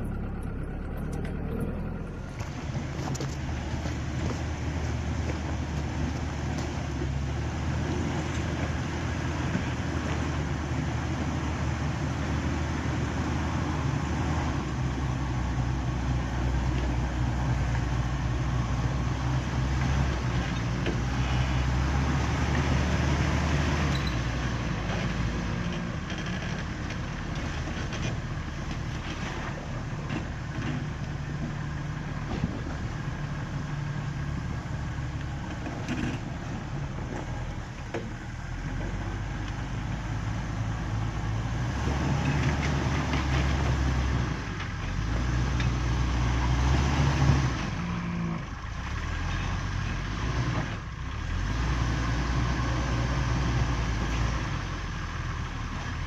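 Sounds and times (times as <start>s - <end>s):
off-road vehicle engine crawling: 0.0s - 56.0s
rough rumble: 0.0s - 56.0s.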